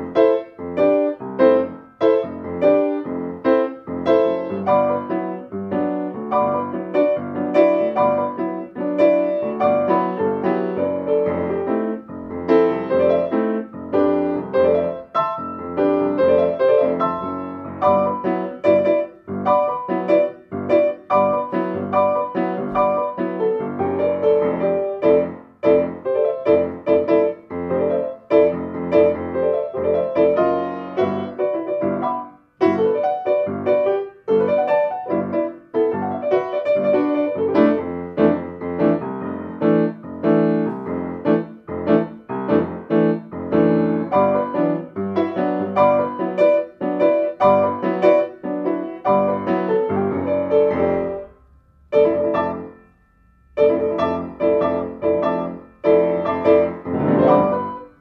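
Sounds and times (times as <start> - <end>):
piano playing quick notes and chords: 0.0 - 58.0.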